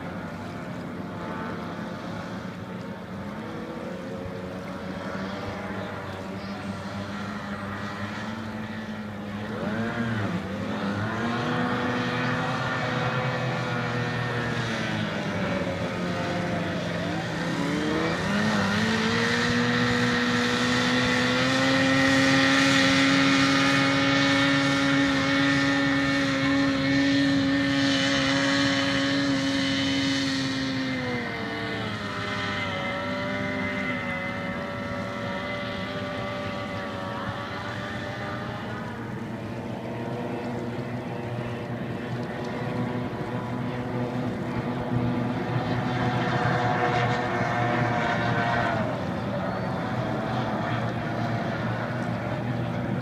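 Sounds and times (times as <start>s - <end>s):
racing boat engine whine: 0.0s - 53.0s.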